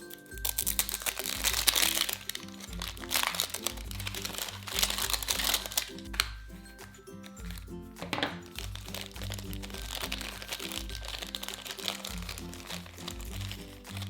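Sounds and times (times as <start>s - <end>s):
plastic packaging crinkling and tearing: 0.0s - 6.4s, 7.4s - 14.0s
light background music: 0.0s - 14.0s.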